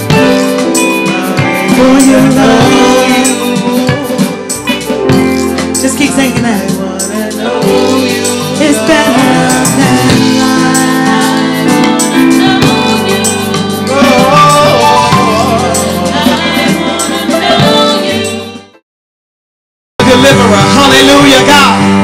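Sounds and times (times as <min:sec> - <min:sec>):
person singing: 0:00.0 - 0:18.7
band playing worship music: 0:00.0 - 0:18.8, 0:20.0 - 0:22.0.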